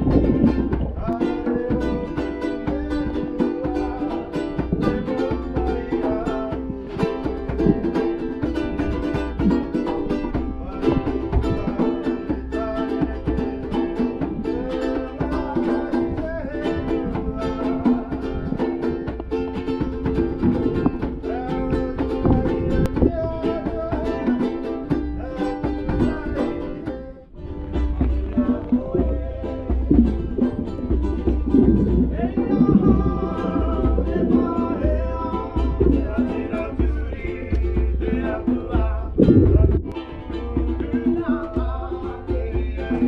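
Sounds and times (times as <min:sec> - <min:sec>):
plucked ukulele music with beat: 0:00.0 - 0:43.0.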